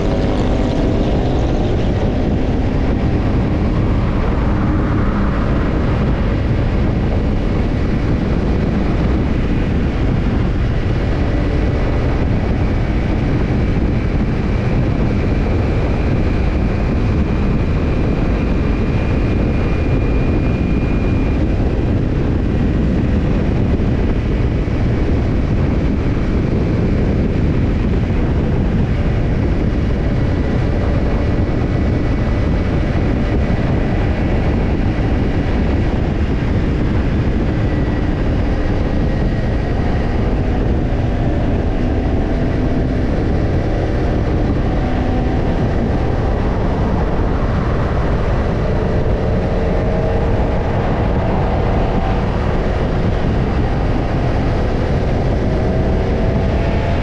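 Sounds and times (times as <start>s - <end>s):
heavy wind noise: 0.0s - 57.0s
motorcycle engine while riding: 0.0s - 57.0s.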